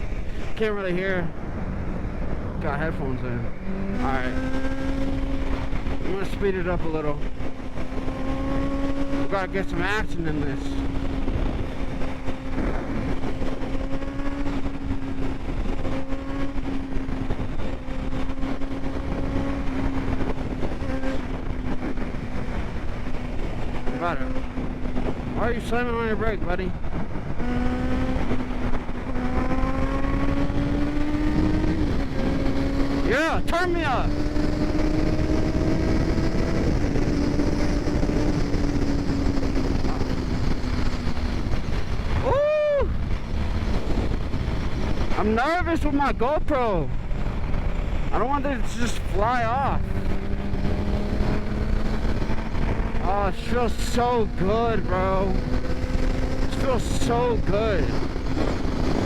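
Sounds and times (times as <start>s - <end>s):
motorcycle engine drone: 0.0s - 59.0s
road noise: 0.0s - 59.0s
wind noise: 0.0s - 59.0s.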